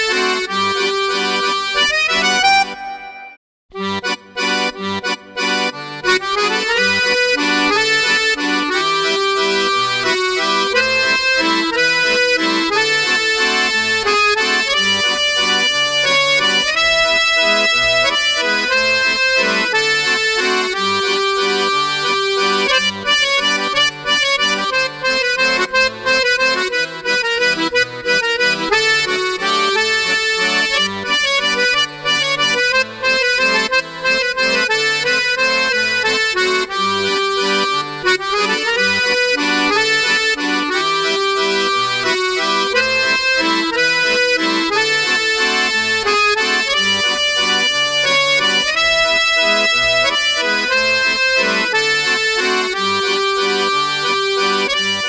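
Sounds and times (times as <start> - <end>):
instrumental background music: 0.0 - 55.0.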